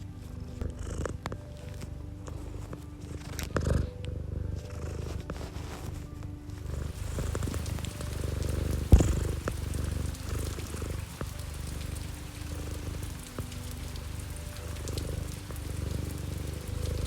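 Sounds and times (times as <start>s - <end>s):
cat purring: 0.0s - 17.0s
soft sustained tones: 0.0s - 17.0s.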